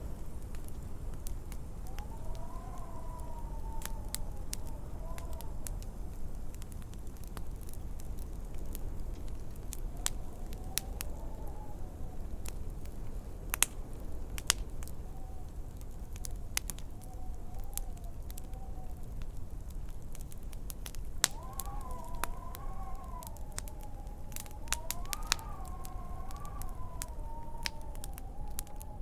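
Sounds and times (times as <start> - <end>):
faint wavering wind howl: 0.0 - 29.0
low rumble of wind: 0.0 - 29.0
wood fire crackling: 0.0 - 29.0.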